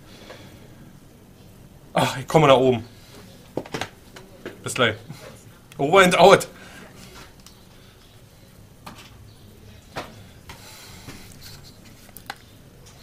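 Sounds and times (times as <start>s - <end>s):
low room noise: 0.0s - 13.0s.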